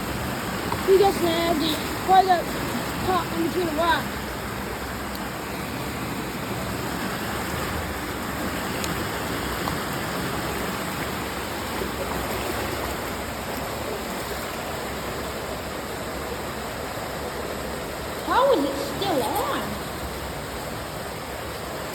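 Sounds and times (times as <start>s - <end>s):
creek water rushing over rocks: 0.0s - 21.9s.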